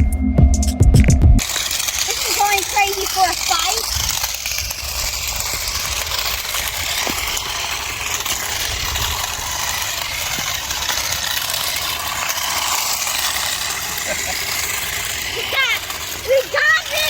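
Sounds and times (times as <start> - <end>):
small electric motors whirring: 1.4 - 17.0
tyres on pavement: 1.4 - 17.0.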